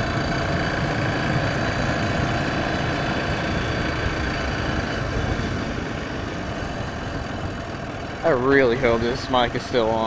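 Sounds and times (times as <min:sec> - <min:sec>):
four-wheeler engine running: 0:00.0 - 0:10.0.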